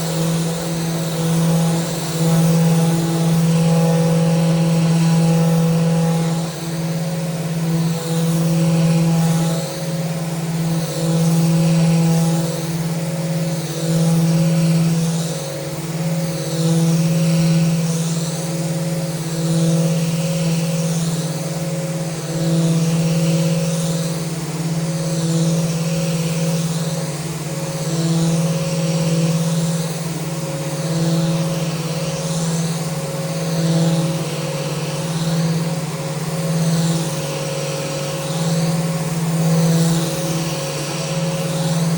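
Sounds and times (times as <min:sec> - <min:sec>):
power sander motor hum: 0:00.0 - 0:41.9.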